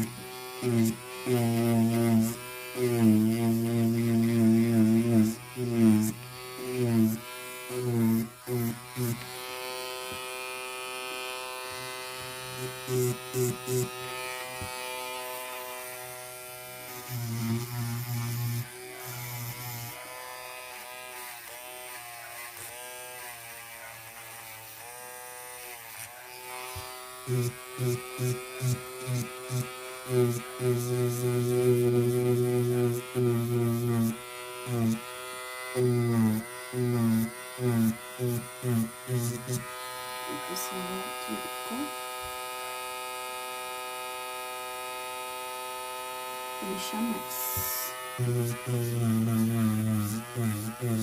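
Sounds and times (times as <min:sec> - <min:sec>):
electric nail drill whining: 0:00.0 - 0:51.0.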